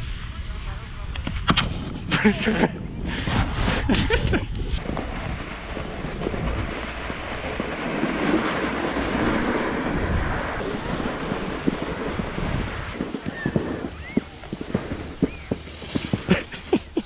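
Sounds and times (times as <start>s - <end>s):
wind on camera microphone: 0.0s - 17.0s
snowboard sliding over snow: 1.4s - 17.0s.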